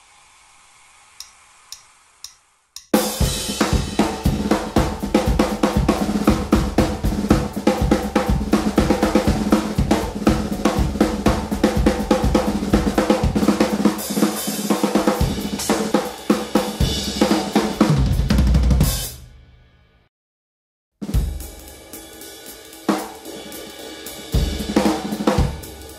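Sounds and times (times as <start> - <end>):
fast drum kit playing: 2.8 - 19.3, 21.0 - 25.9.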